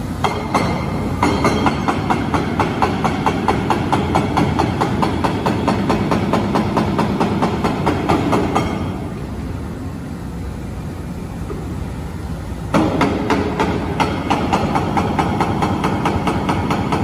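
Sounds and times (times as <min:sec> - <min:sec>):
pneumatic hammer pounding: 0:00.0 - 0:09.4, 0:12.6 - 0:17.0.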